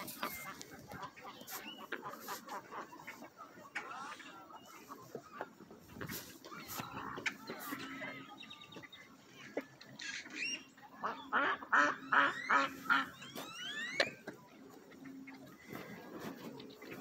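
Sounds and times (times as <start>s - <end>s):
waterfowl calling: 0.0s - 8.5s, 9.9s - 17.0s.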